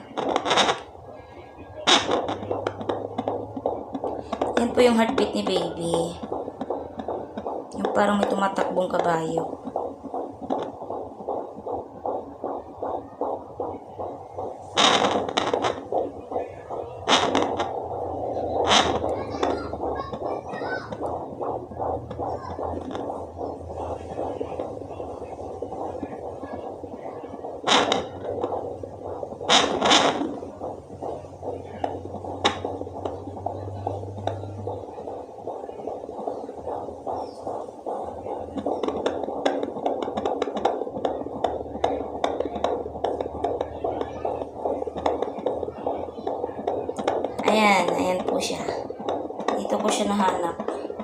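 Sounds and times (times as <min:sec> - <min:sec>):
doppler rhythmic pulsing: 0:00.0 - 0:51.0
steady low hum: 0:00.0 - 0:51.0
whooshing fetal heartbeat: 0:00.0 - 0:51.0.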